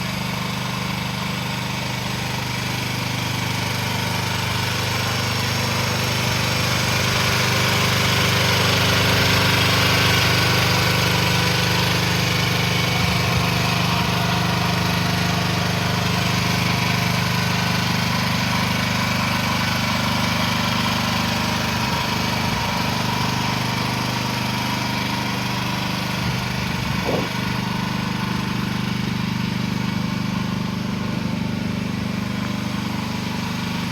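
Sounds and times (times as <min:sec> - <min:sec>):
mini excavator engine running: 0:00.0 - 0:33.9.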